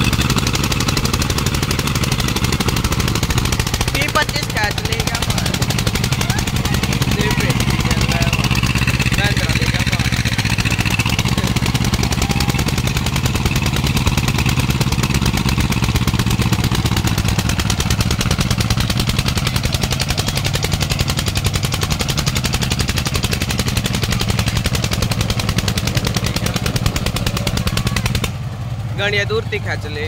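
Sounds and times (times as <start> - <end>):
tractor diesel engines under load: 0.0 - 30.0.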